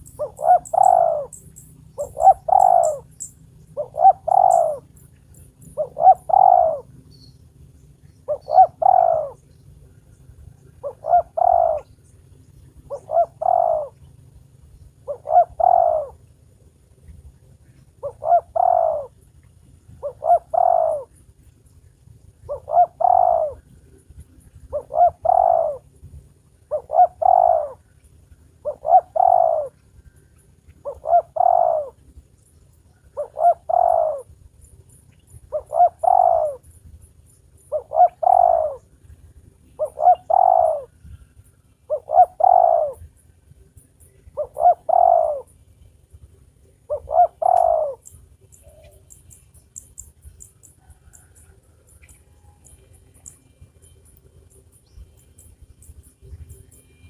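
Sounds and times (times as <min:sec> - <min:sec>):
dove cooing: 0:00.0 - 0:07.3, 0:08.2 - 0:16.9, 0:17.6 - 0:21.4, 0:22.4 - 0:34.7, 0:35.3 - 0:55.0.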